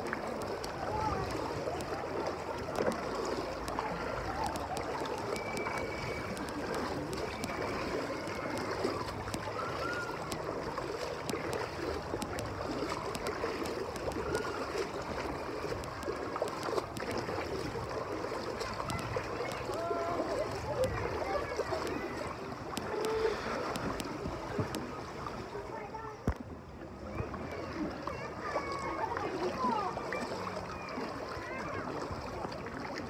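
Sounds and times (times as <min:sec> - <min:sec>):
small water splashes: 0:00.0 - 0:33.0
water sloshing around legs: 0:00.0 - 0:33.0.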